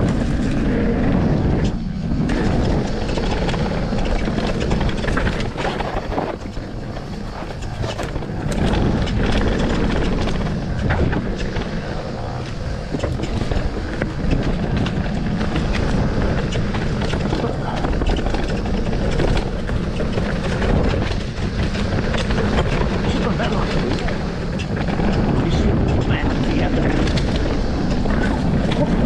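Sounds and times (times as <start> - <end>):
bike clattering over bumps: 0.0 - 29.0
bike tyres rolling over dirt: 0.0 - 29.0
wind rush on microphone: 0.0 - 29.0.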